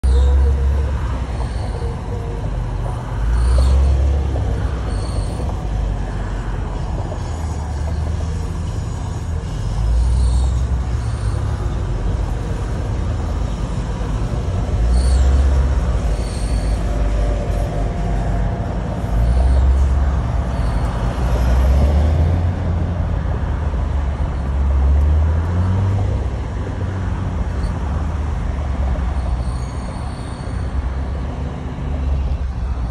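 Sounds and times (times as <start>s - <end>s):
car engine rumble: 0.0s - 32.9s.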